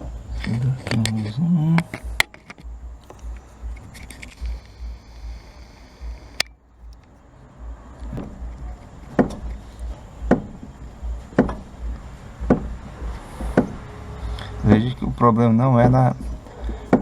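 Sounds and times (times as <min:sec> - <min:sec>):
steering box knocking: 0:00.0 - 0:17.0.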